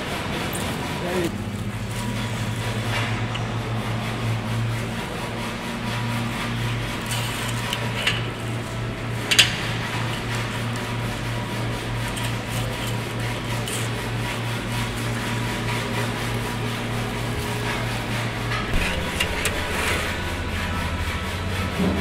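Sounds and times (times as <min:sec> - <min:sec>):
low pulsing mechanical hum: 0:00.0 - 0:22.0.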